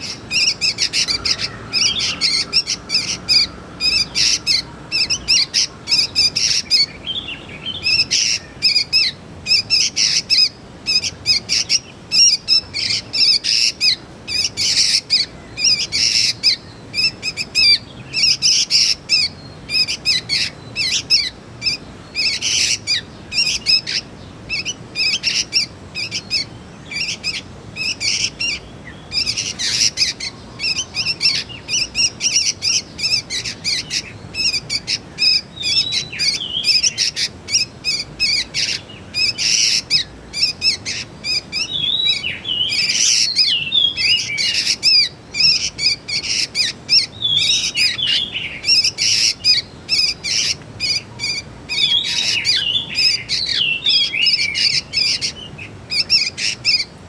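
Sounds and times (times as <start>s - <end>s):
bird chirping and warbling: 0.0s - 57.0s.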